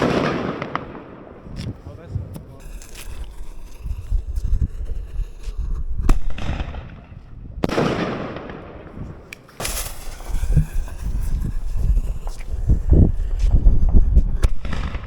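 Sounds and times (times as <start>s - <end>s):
firework bangs: 0.0s - 15.0s
firework hiss and crackle: 0.0s - 15.0s.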